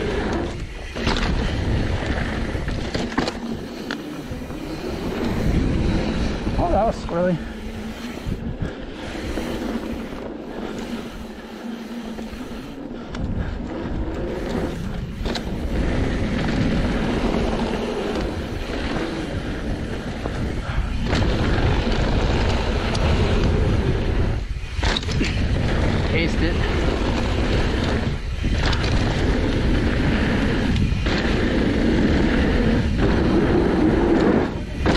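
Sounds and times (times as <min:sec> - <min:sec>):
bike knocks and rattles: 0:00.0 - 0:07.3, 0:13.0 - 0:34.9
bike tyres rumbling on dirt: 0:00.0 - 0:34.9
wind buffeting microphone: 0:00.0 - 0:34.9.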